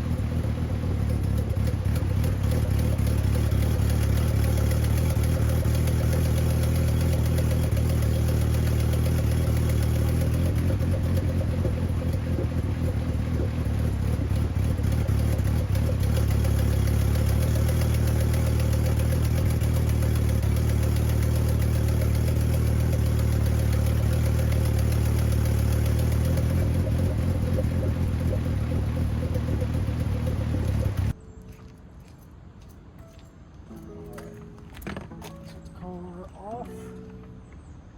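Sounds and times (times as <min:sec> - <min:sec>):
turbo engine idling: 0:00.0 - 0:31.2.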